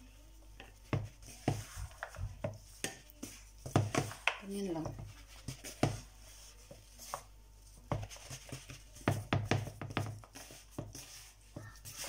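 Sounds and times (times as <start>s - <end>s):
soft rustling and squishing: 0.0s - 12.0s.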